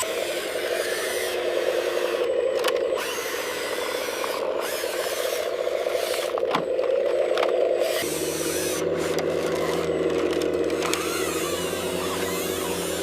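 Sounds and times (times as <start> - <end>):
lower hum: 0.0 - 13.0
small electric motors whirring: 0.0 - 13.0.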